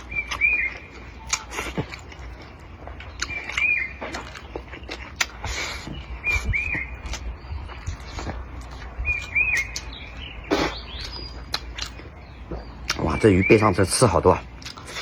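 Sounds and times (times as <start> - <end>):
bird chirping: 0.0 - 15.0
chewing with sharp clicks: 0.0 - 15.0.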